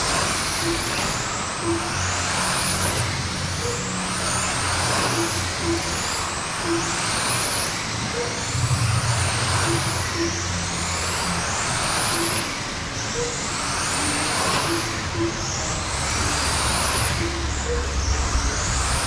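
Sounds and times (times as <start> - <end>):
rc car motors whining: 0.0 - 19.0.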